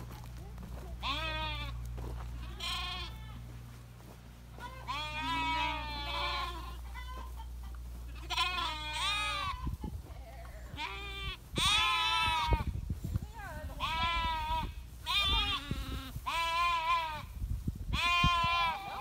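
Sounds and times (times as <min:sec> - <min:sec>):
steady low hum: 0:00.0 - 0:19.0
sheep bleating: 0:00.9 - 0:03.6, 0:04.5 - 0:12.7, 0:13.8 - 0:17.3, 0:18.0 - 0:19.0.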